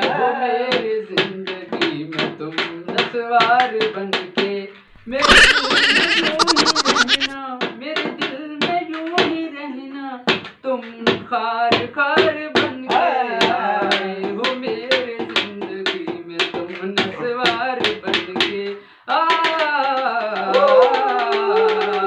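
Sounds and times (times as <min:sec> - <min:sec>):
man singing: 0:00.0 - 0:22.0.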